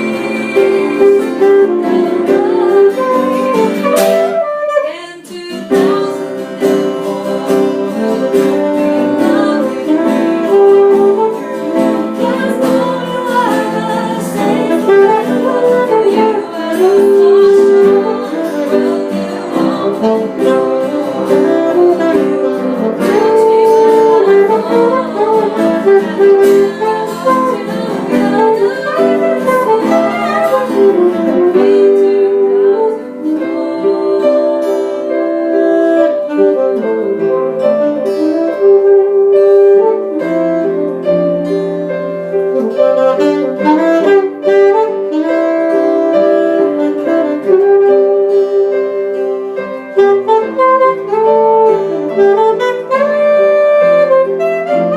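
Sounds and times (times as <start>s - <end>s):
jazz band playing: 0.0s - 4.9s, 5.7s - 54.9s
saxophone melody: 0.0s - 54.9s.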